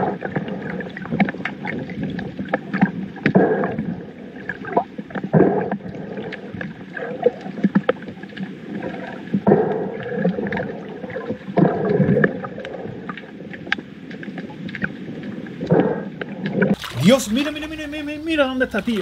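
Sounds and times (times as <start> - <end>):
small underwater clicks: 0.0 - 16.8
muffled churning water underwater: 0.0 - 19.0.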